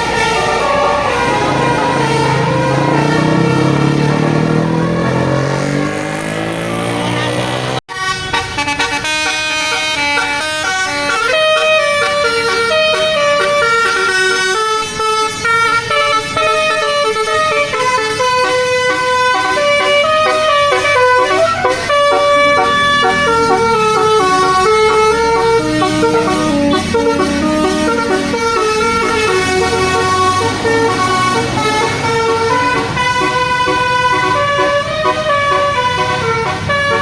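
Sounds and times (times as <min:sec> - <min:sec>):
bus engine rumble: 0:00.0 - 0:37.0
multi-tone musical bus horn: 0:00.0 - 0:37.0.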